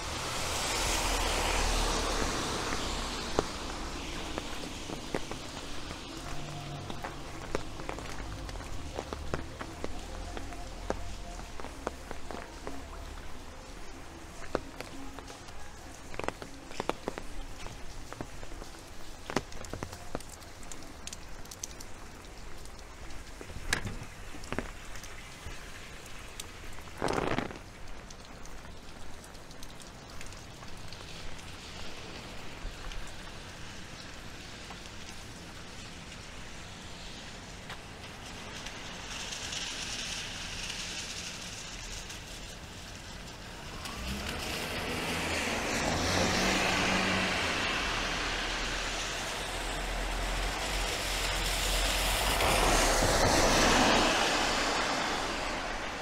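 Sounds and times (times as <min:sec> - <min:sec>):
rain on a street: 0:00.0 - 0:56.0
vehicle passing on wet road: 0:00.0 - 0:56.0.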